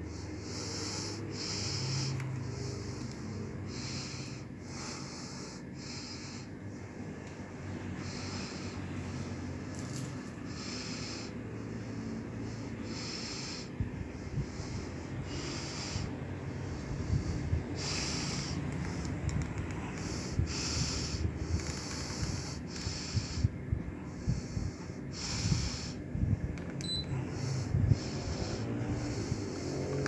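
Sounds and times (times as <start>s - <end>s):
air conditioner blower running: 0.0s - 30.0s
airflow buffeting microphone: 0.0s - 30.0s.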